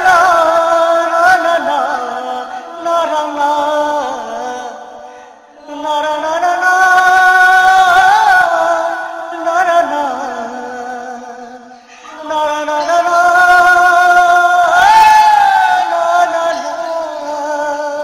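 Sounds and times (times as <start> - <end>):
slow wavering vocal line: 0.0 - 18.0.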